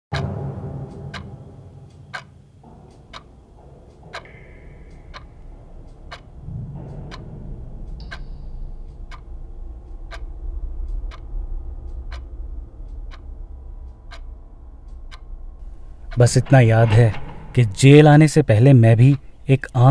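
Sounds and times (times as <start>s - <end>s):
clock ticking: 0.1s - 19.9s
low steady drone: 0.1s - 19.9s.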